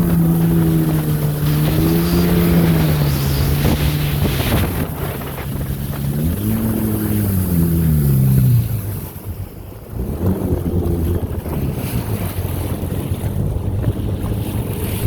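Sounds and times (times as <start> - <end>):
personal watercraft engine: 0.0 - 15.0
wind noise on microphone: 0.0 - 15.0.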